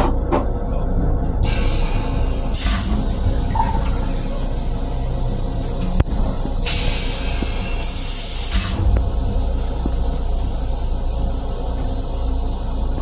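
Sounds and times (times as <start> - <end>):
electric train low rumble: 0.0 - 13.0
air hisses: 1.4 - 13.0.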